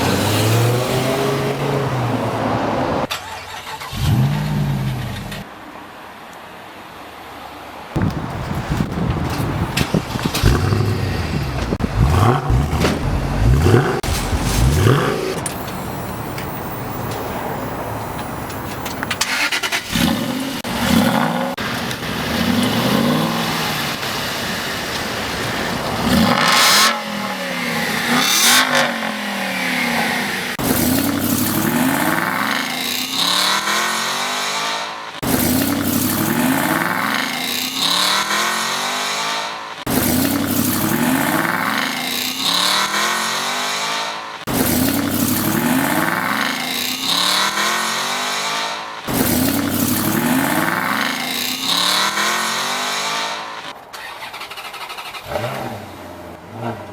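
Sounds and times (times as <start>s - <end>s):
car engines revving and accelerating: 0.0s - 3.2s, 3.9s - 5.6s, 7.9s - 53.9s, 55.2s - 56.9s.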